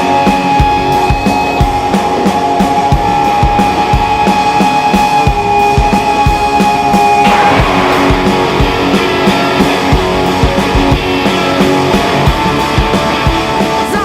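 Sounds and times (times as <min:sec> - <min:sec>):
rock guitar: 0:00.0 - 0:14.0
steady drum beat: 0:00.0 - 0:14.0.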